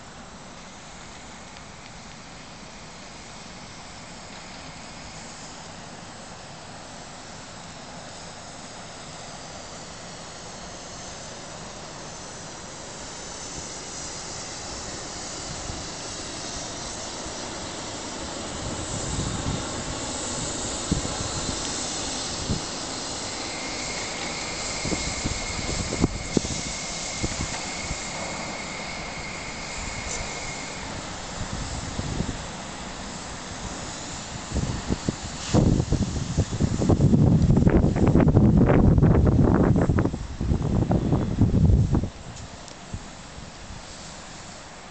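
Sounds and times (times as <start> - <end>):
maglev train rushing hiss: 0.0 - 44.9
steady high whine: 0.0 - 44.9.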